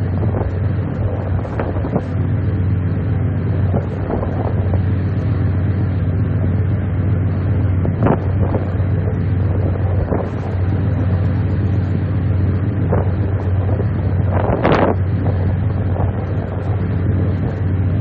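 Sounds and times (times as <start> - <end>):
low engine hum: 0.0 - 18.0
wind noise on microphone: 0.0 - 18.0.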